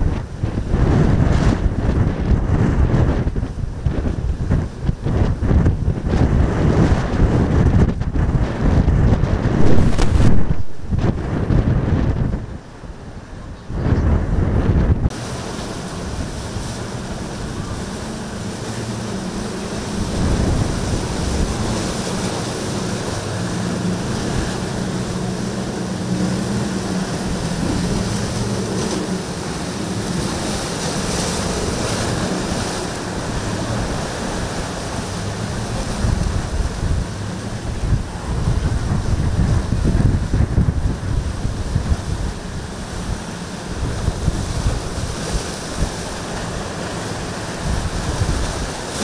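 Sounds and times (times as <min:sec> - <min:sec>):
outboard engines humming: 0:00.0 - 0:49.0
surf and choppy water breaking: 0:00.0 - 0:49.0
wind buffeting microphone: 0:00.0 - 0:49.0.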